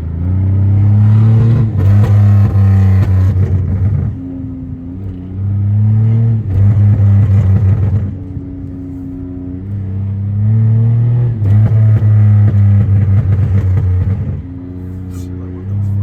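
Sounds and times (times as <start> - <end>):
car engine revving loud: 0.0 - 16.0.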